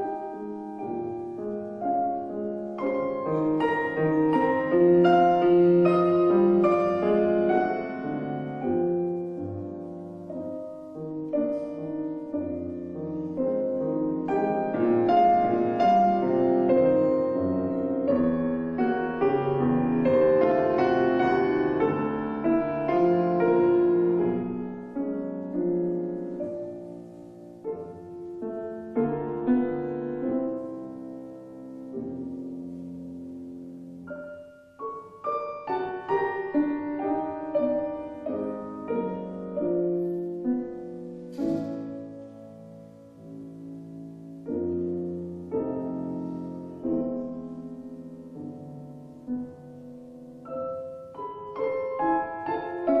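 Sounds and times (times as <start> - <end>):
solo piano piece: 0.0 - 53.0.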